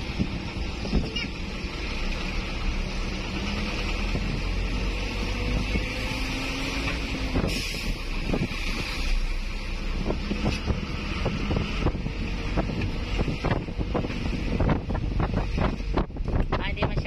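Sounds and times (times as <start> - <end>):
engine and road rumble: 0.0 - 17.0
wind: 0.0 - 17.0.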